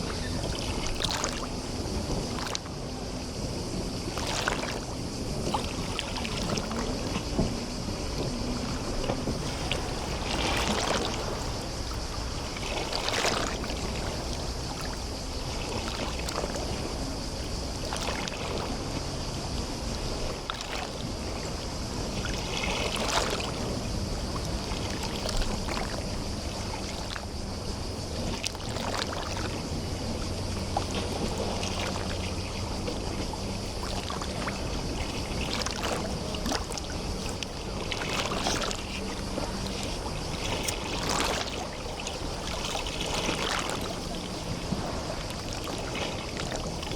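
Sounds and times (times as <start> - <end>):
waves lapping and splashing: 0.0 - 46.9.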